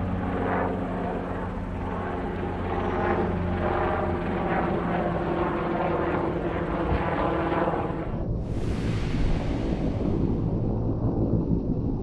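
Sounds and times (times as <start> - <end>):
constant low hum: 0.0 - 12.0
helicopter rotor and engine noise: 0.0 - 12.0.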